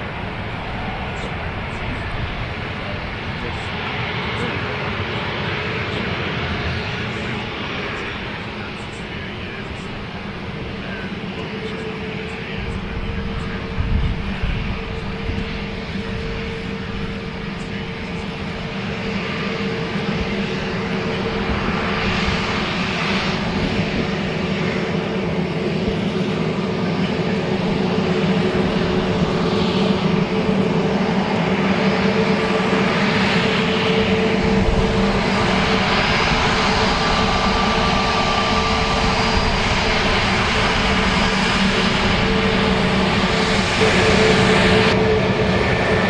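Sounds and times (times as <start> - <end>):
aircraft engines humming: 0.0 - 46.0.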